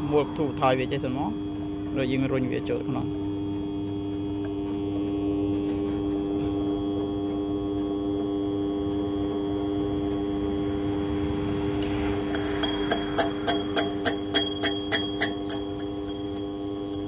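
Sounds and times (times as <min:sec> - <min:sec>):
metal lathe motor hum: 0:00.0 - 0:17.0.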